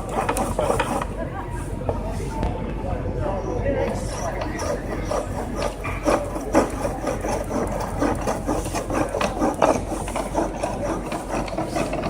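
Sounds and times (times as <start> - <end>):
wooden lathe knocking and rattling: 0.0 - 2.1, 4.1 - 12.0
tool scraping turning wood: 0.0 - 2.4, 3.9 - 12.0.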